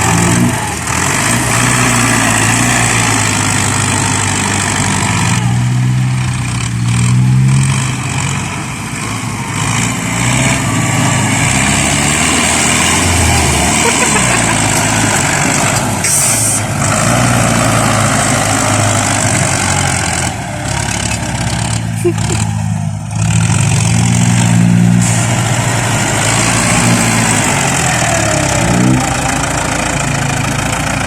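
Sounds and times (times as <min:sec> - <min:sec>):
heavy diesel engine working: 0:00.0 - 0:31.0.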